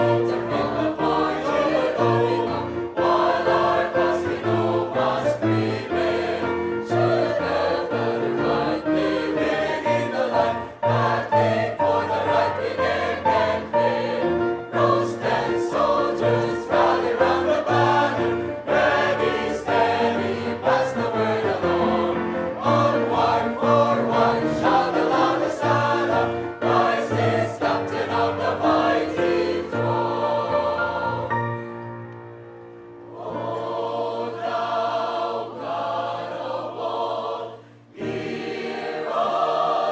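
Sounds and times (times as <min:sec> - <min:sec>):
choir singing a hymn: 0:00.0 - 0:32.1, 0:33.0 - 0:39.9.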